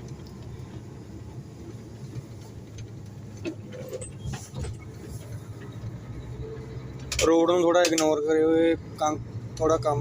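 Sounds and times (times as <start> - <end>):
truck engine drone: 0.0 - 10.0.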